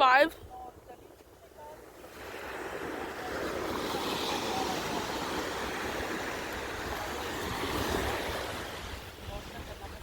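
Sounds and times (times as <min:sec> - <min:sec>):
ocean surf: 0:00.0 - 0:10.0
wind: 0:00.0 - 0:10.0.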